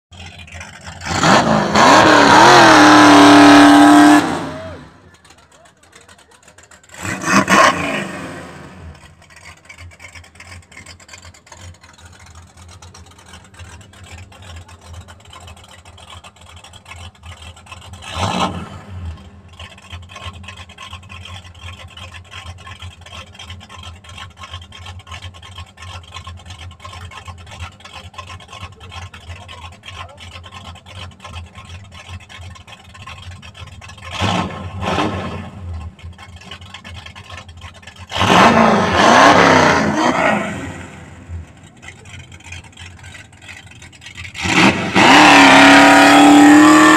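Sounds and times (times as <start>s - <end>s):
car engine idling and revving: 0.0s - 46.9s.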